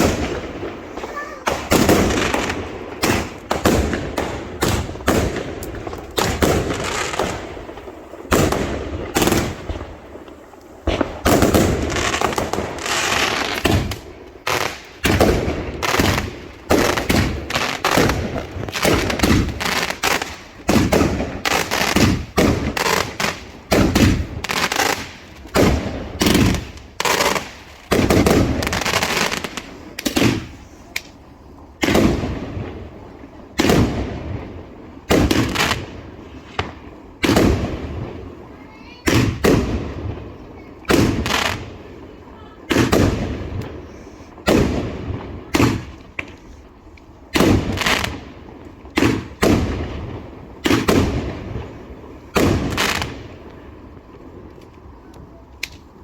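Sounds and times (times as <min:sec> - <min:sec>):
fireworks bangs: 0:00.0 - 0:56.0
fireworks hissing and crackling: 0:00.0 - 0:56.0.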